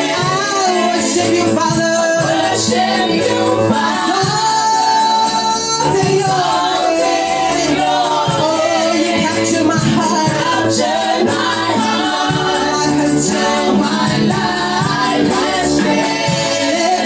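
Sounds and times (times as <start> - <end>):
women singing gospel together: 0.0 - 17.0.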